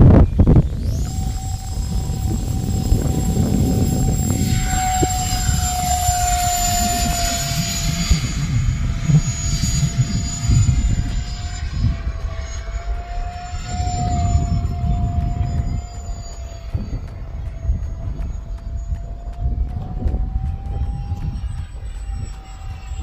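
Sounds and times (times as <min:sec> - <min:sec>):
electric jet fan whine: 0:00.0 - 0:23.0
wind rumbling on microphone: 0:00.0 - 0:23.0.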